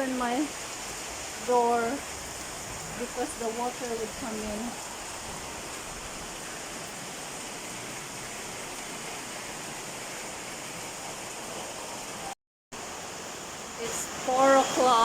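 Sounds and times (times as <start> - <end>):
heavy rain: 0.0 - 15.0
running water: 0.0 - 15.0.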